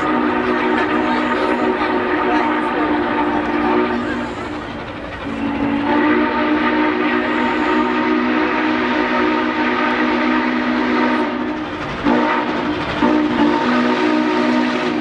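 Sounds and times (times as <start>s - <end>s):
steam locomotive whistle: 0.0s - 15.0s.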